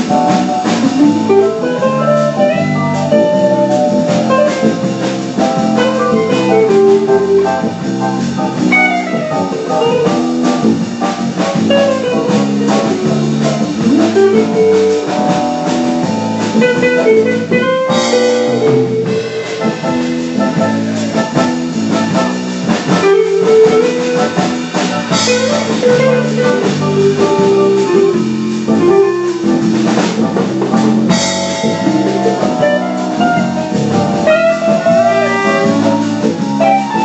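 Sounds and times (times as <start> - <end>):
guitar melody: 0.0 - 37.0
jazz combo playing a ballad: 0.0 - 37.0.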